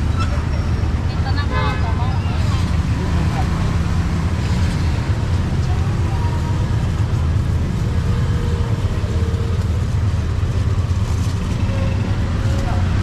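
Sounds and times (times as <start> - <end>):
engines idling: 0.0 - 13.0
street traffic rumble: 0.0 - 13.0.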